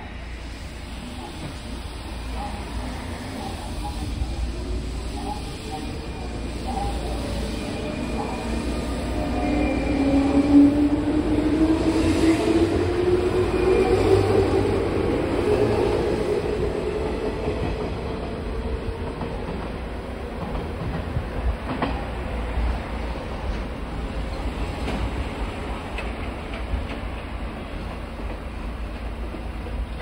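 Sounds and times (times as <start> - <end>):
train wheels rumbling and clattering: 0.8 - 30.0.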